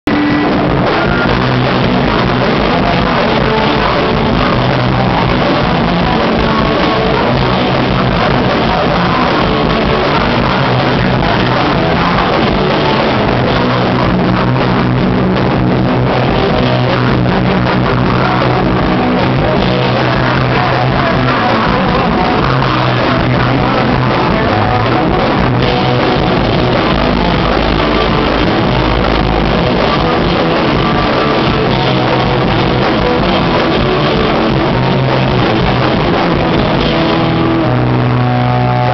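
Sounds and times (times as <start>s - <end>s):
electric guitar: 0.0s - 38.9s
rock band playing live: 0.0s - 38.9s
person singing: 0.1s - 38.9s.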